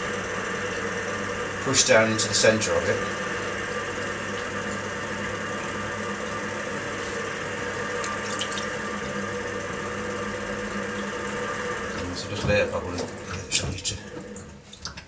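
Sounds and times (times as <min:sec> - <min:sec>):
potter's wheel humming: 0:00.0 - 0:15.0.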